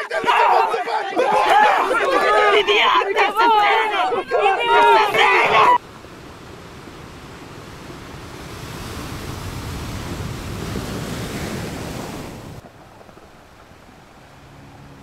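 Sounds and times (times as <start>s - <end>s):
sea waves surging: 0.0s - 15.0s.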